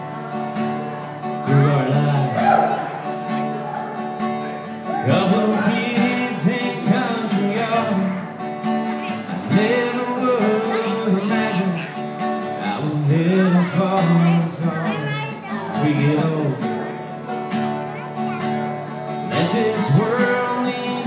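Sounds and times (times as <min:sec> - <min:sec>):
man singing slow song: 0:00.0 - 0:03.8, 0:04.5 - 0:08.4, 0:09.0 - 0:17.3, 0:19.2 - 0:21.0
strummed acoustic guitar: 0:00.0 - 0:21.0.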